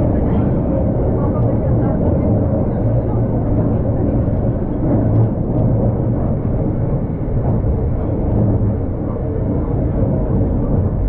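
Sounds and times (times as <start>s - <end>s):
tram running rumble: 0.0s - 11.0s.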